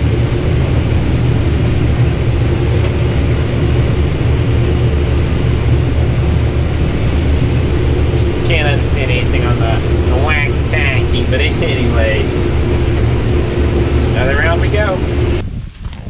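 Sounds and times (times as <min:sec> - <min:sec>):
faint steady hum: 0:00.0 - 0:15.4
combine harvester low drone: 0:00.0 - 0:15.6.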